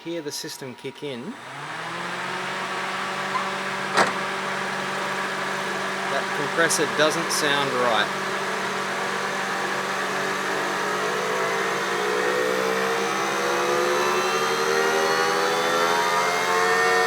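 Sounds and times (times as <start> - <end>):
air conditioning compressor whine: 0.0 - 17.0.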